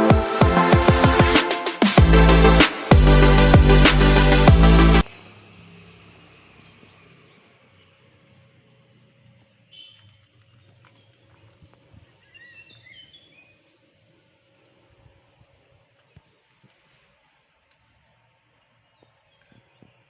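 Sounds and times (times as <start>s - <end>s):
birds chirping: 1.1s - 20.0s.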